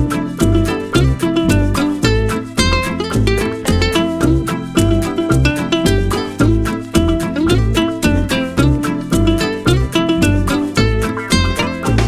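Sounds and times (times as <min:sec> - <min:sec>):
bouncing bass beat: 0:00.0 - 0:12.0
upbeat music with plucked strings: 0:00.0 - 0:12.0.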